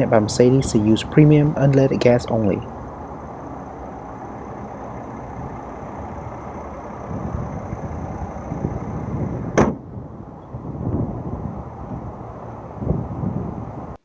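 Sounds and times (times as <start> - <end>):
faint high whine: 0.0 - 12.8
steady low rumble: 0.0 - 14.0.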